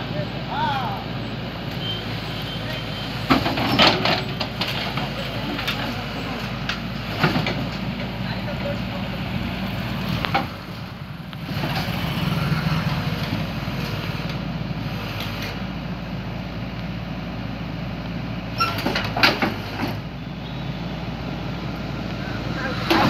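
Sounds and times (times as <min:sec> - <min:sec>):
excavator diesel engine: 0:00.0 - 0:23.0.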